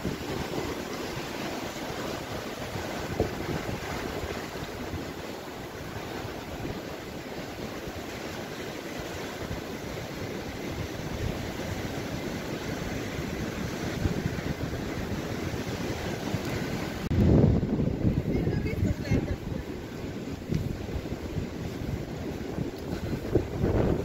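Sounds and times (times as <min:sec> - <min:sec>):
surf washing over sand: 0:00.0 - 0:24.0
wind rumbling on microphone: 0:00.0 - 0:24.0.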